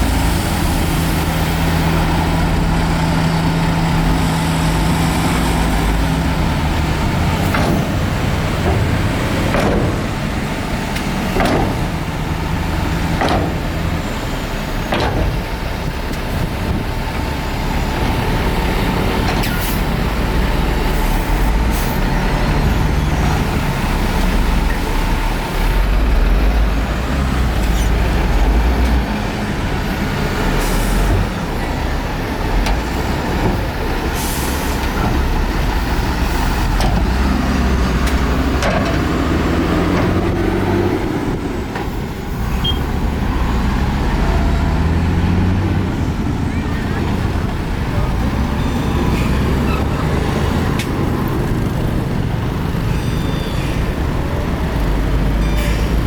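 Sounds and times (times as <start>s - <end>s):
diesel machinery rumbling: 0.0s - 56.0s.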